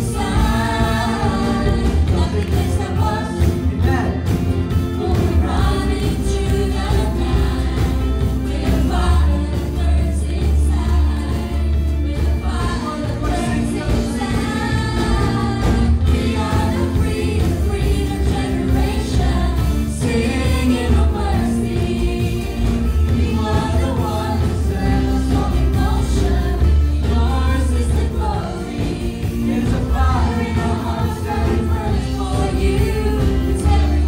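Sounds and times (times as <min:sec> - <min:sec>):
backing singers: 0:00.0 - 0:34.0
live band playing upbeat song: 0:00.0 - 0:34.0.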